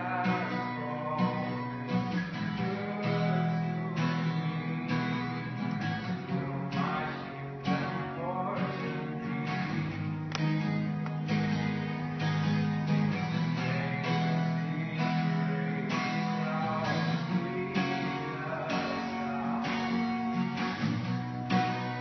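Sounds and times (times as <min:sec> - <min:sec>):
live band with guitars: 0:00.0 - 0:22.0.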